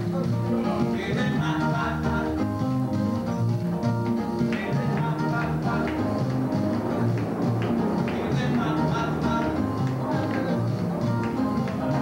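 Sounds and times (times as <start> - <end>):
live band playing upbeat music: 0.0 - 12.0.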